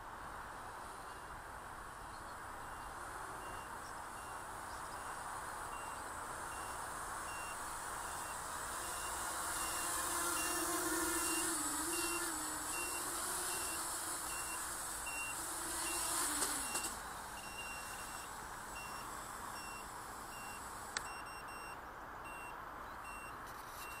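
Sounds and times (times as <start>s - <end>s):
quadcopter motors idling: 0.5s - 21.6s
short electronic beeps: 2.7s - 4.4s, 5.0s - 10.6s, 11.2s - 24.0s.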